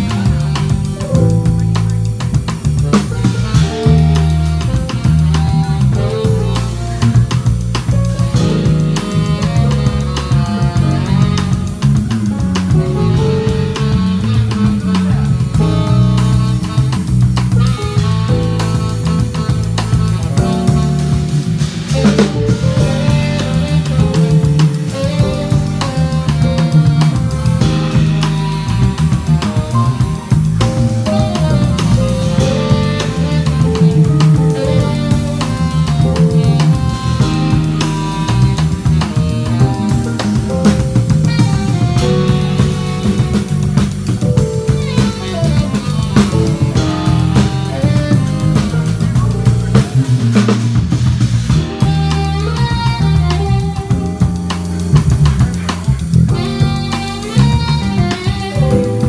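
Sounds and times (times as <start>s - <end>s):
drum kit: 0.0s - 59.0s
electric bass line: 0.0s - 59.0s
held chords: 0.0s - 59.0s
live funk band: 0.0s - 59.0s.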